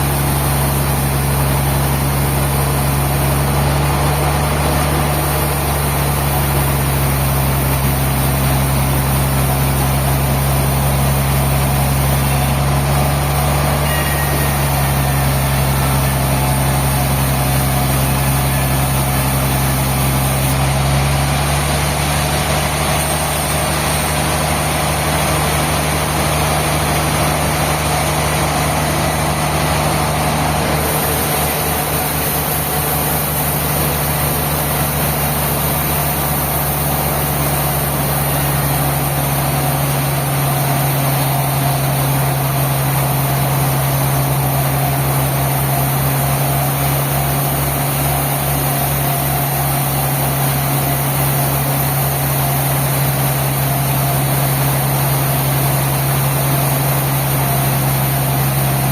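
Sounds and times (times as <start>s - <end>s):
sawmill machinery humming: 0.0s - 58.9s.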